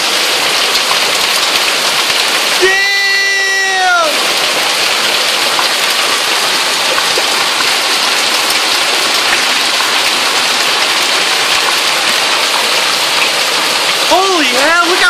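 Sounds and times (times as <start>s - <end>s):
hail clattering on surfaces: 0.0s - 15.0s.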